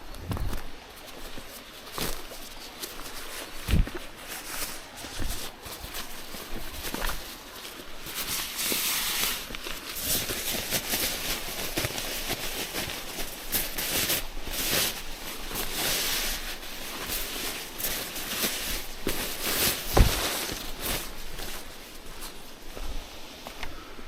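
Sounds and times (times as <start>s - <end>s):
rustling and scuffing of gear: 0.0s - 24.0s.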